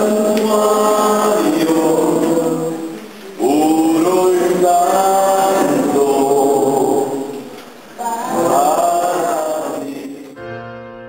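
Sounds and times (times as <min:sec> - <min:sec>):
voices singing long notes: 0:00.0 - 0:10.5.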